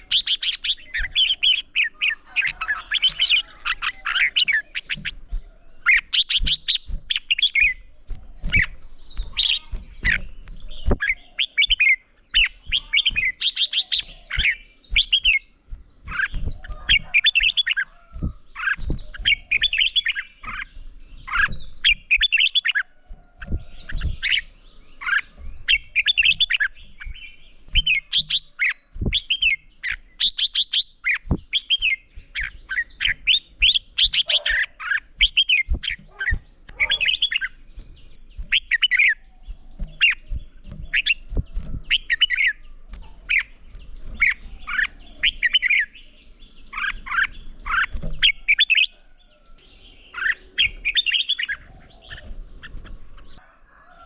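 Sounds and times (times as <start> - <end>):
bulbuls singing: 0.0 - 54.0.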